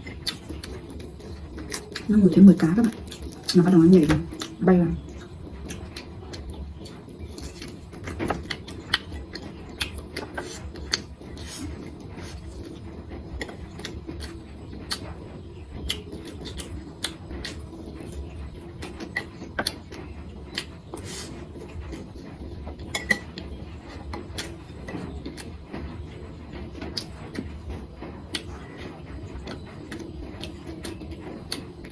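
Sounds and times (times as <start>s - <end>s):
low steady hum: 0.0s - 31.9s.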